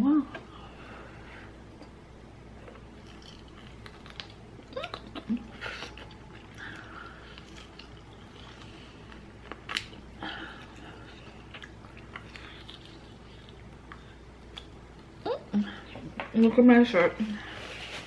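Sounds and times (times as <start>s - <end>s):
person chewing noodles: 1.2s - 16.0s.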